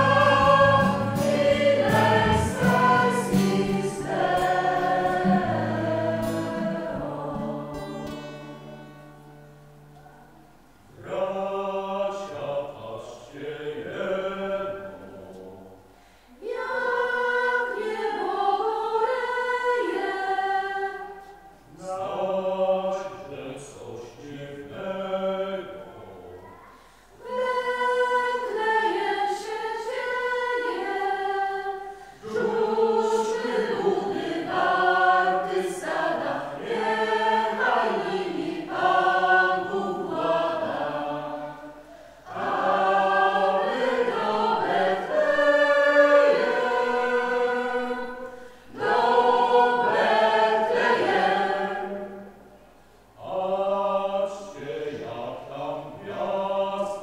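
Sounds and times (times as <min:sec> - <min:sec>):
mixed choir singing: 0:00.0 - 0:09.4, 0:10.8 - 0:57.0.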